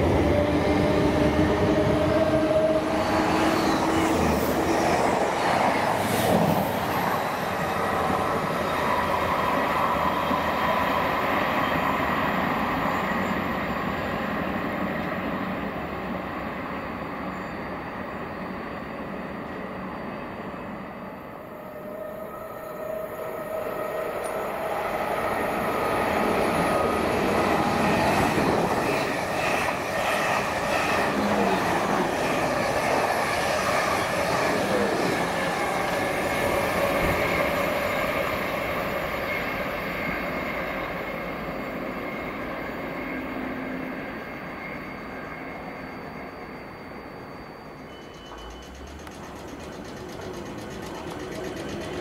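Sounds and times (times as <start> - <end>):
passenger train rumbling: 0.0 - 52.0.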